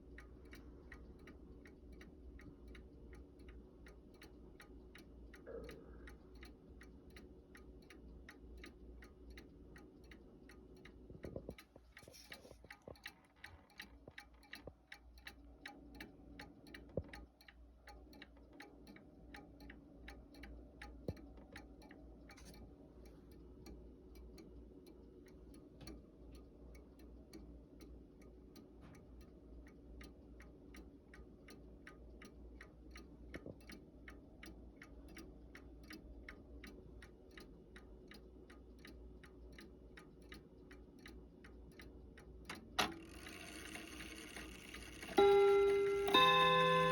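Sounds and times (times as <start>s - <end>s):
clock ticking faintly: 0.0s - 46.9s.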